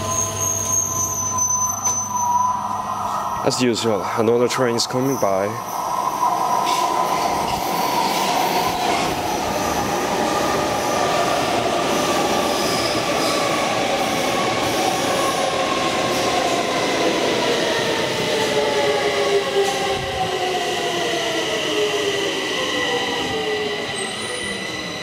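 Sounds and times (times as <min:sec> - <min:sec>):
subway train rumbling past: 0:00.0 - 0:25.0.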